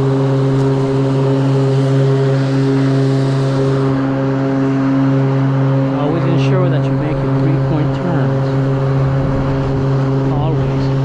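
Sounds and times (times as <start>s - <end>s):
electric lawn mower whine: 0.0s - 11.0s.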